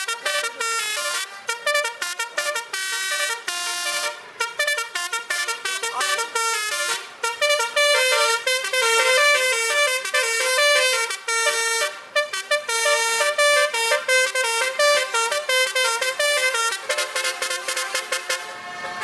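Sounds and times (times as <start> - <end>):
truck multi-horn playing a tune: 0.0 - 19.0.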